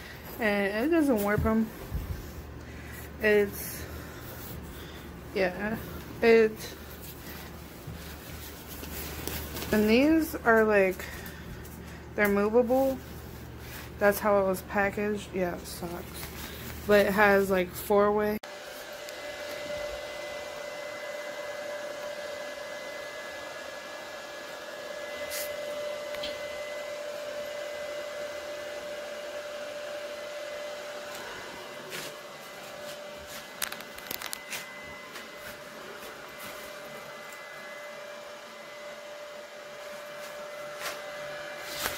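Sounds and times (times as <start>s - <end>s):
fan heater blowing hum: 0.0s - 41.9s.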